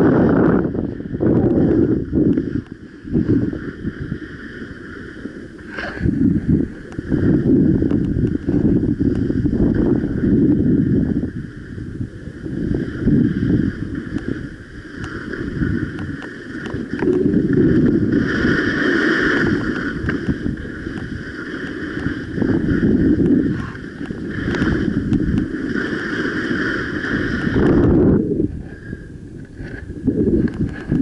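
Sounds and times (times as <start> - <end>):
skis scraping over hard snow: 0.0 - 11.3, 12.4 - 28.8, 29.5 - 31.0
wind buffeting microphone: 0.0 - 31.0.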